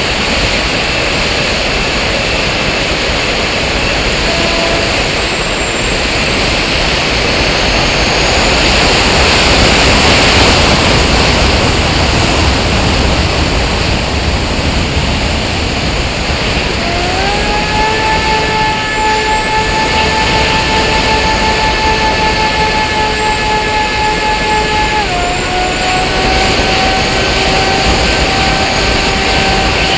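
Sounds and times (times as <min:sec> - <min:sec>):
model plane motor whine: 0:00.0 - 0:29.9
wind rushing: 0:00.0 - 0:29.9.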